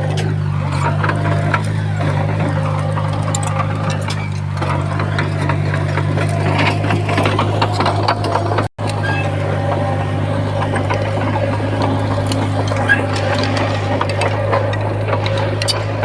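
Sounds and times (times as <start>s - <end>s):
diesel engine running: 0.0s - 16.0s
metal clanking and rattling: 0.0s - 16.0s.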